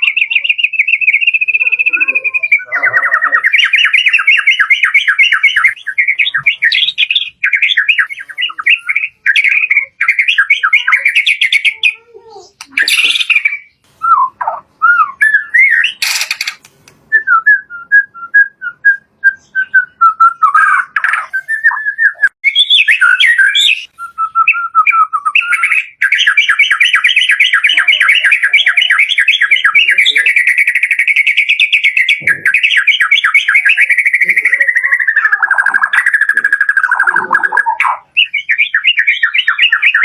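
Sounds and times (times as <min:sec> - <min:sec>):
bird singing whistled phrases: 0:00.0 - 0:16.5, 0:17.1 - 0:40.0.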